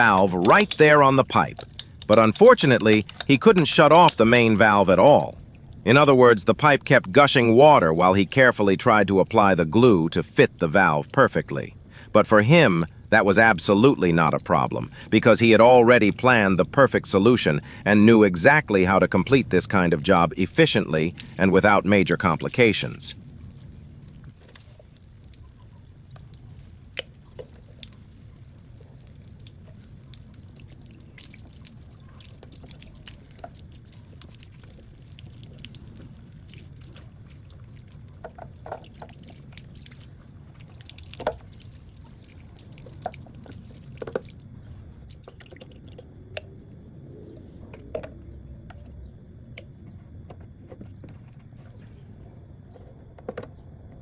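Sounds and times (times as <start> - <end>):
water rushing from pipe: 0.0 - 44.4
sharp drips and splashes: 0.0 - 46.1.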